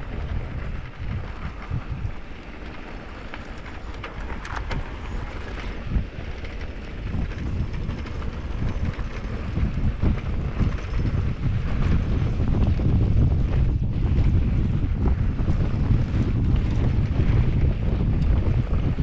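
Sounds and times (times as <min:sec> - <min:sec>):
bike rattles and clicks: 0:00.0 - 0:19.0
tyres rolling over dirt: 0:00.0 - 0:19.0
wind buffeting microphone: 0:00.0 - 0:19.0.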